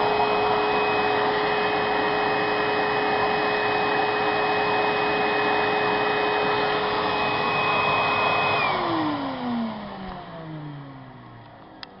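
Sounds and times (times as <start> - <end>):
vacuum cleaner spinning down: 0.0 - 12.0.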